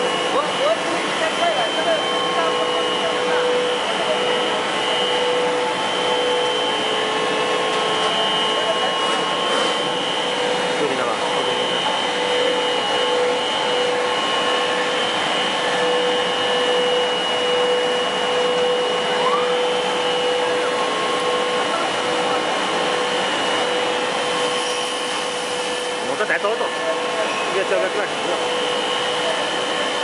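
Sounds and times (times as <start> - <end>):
high-pitched machine whine: 0.0 - 30.0
machine drone: 0.0 - 30.0.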